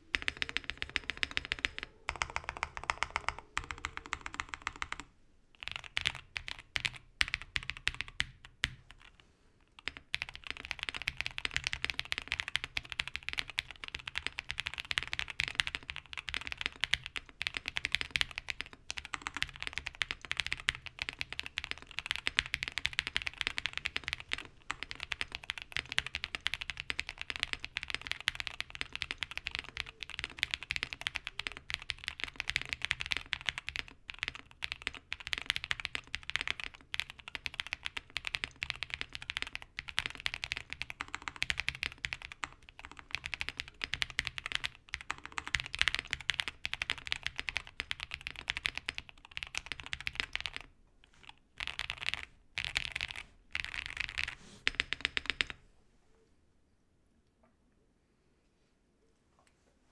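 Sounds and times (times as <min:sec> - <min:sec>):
fast typing on mechanical keyboard: 0:00.1 - 0:09.1, 0:09.8 - 0:55.6.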